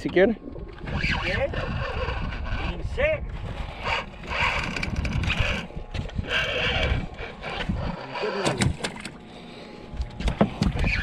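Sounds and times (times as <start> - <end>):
fishing reel gears whirring: 0.7 - 9.6.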